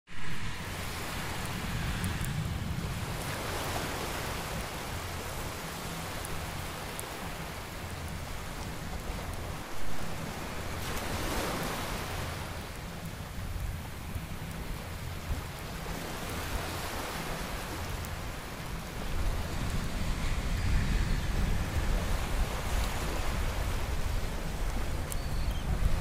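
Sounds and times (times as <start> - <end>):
beach surf rushing: 0.1 - 26.0
twig fire crackling: 0.1 - 26.0
wind buffeting microphone: 0.1 - 26.0.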